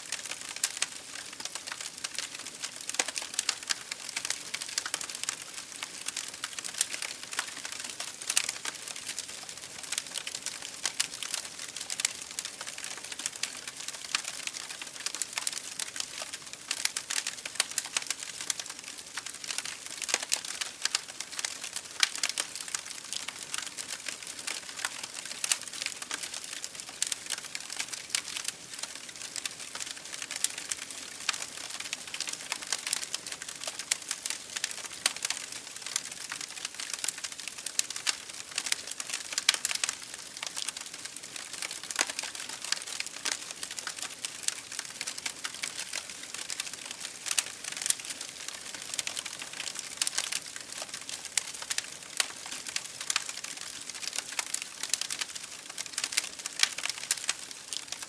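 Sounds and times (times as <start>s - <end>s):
wood fire crackling and popping: 0.1s - 58.0s.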